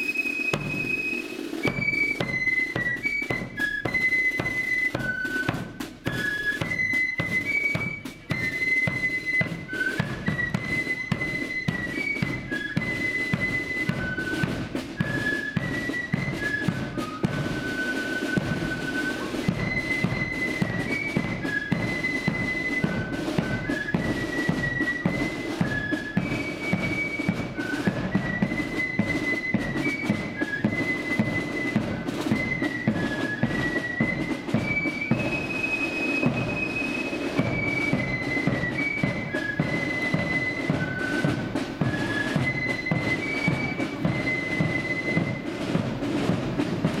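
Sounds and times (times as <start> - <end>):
high flute melody: 0.0 - 47.0
steady driving drums: 0.0 - 47.0.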